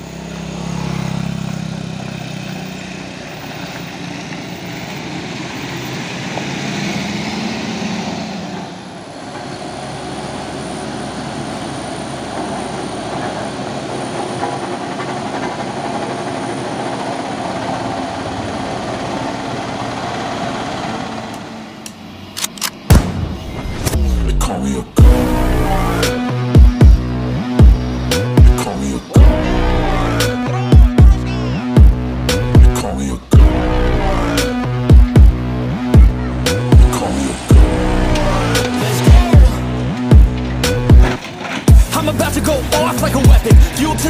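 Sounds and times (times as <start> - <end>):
bus diesel engine running: 0.0 - 44.0
heavy truck engine passing: 0.0 - 44.0
road roller running: 0.0 - 44.0.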